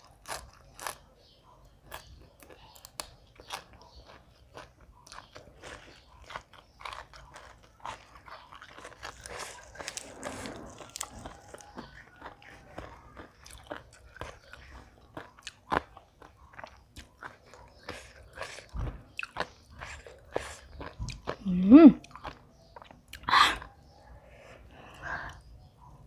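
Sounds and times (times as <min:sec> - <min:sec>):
person crunching crisp food: 0:00.0 - 0:01.2, 0:01.8 - 0:23.7.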